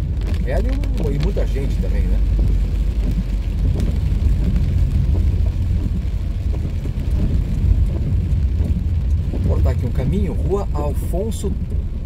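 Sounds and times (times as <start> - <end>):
car engine and tyre rumble: 0.0 - 12.0
rain and spray hiss: 0.0 - 12.0.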